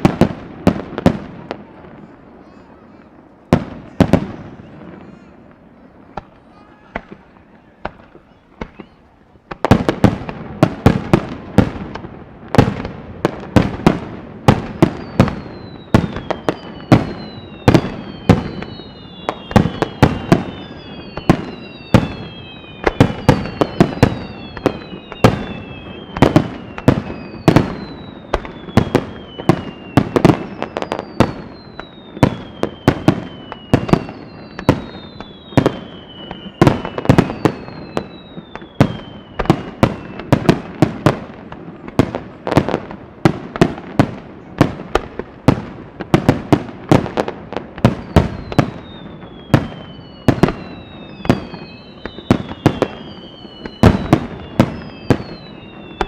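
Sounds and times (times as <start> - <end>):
faint fireworks pops: 0.0 - 56.0
fireworks bangs: 0.0 - 56.0
fireworks falling whistles: 0.0 - 56.0.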